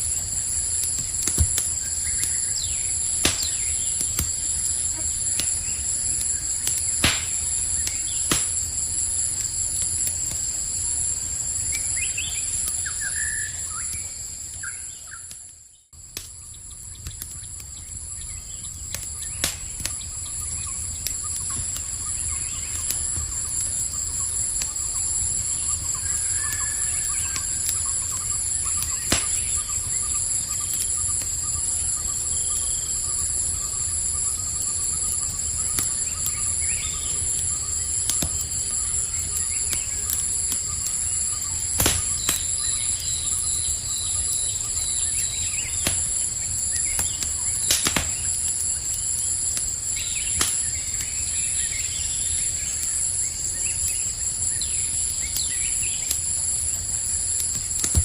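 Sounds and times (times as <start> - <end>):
burning wood popping: 0.0 - 15.4, 16.0 - 58.0
campfire crackling: 0.0 - 58.0
night insects chorus: 0.0 - 58.0.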